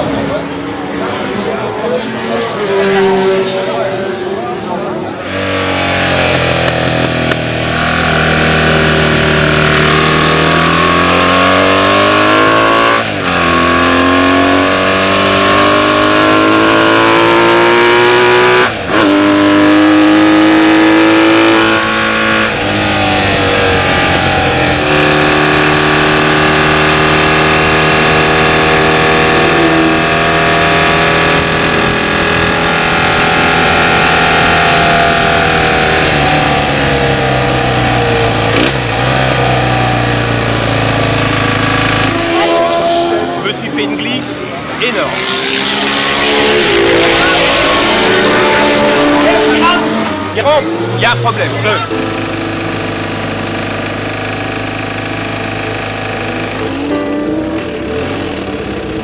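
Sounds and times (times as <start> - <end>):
racing motorcycle engine revving: 0.0 - 59.0.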